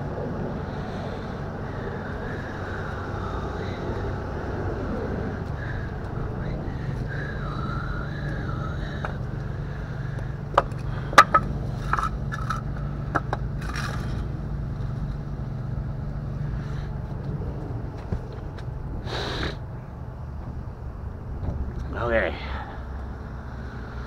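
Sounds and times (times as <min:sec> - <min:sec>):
engine running hum: 0:00.0 - 0:24.0.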